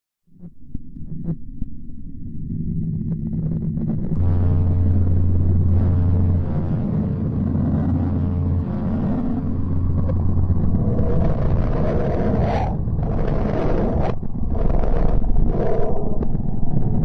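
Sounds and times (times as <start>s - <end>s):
deep droning hum: 0.3s - 17.0s
whooshing rumble: 2.9s - 17.0s.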